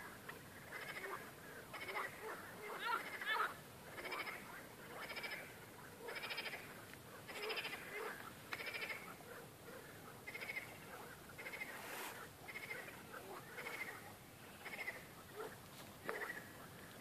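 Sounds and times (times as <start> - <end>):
frogs croaking in chorus: 0.0 - 17.0.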